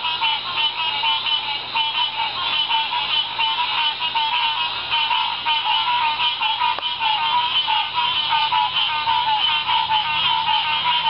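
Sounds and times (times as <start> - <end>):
frogs calling: 0.0 - 11.0.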